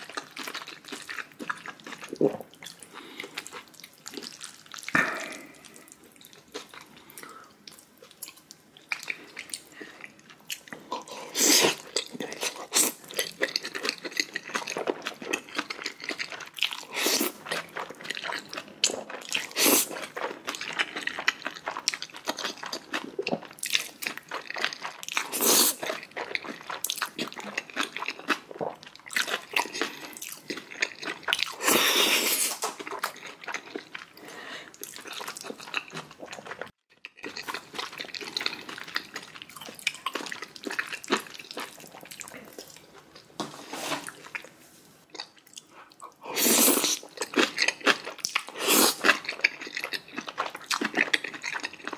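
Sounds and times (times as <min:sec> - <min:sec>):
chewing and crunching: 0:00.0 - 0:43.4, 0:44.1 - 0:51.9.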